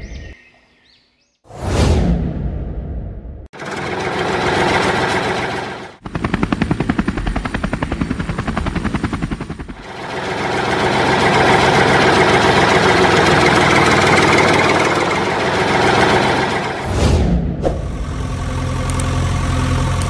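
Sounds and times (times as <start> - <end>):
engine drone: 3.6 - 20.0.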